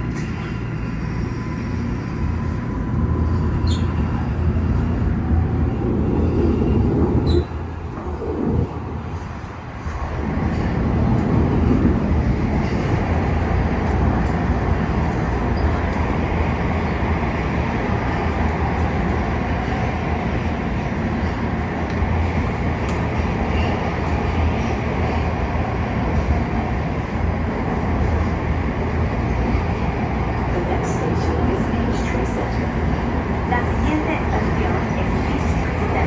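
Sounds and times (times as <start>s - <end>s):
rail car running through tunnel: 0.0s - 36.0s.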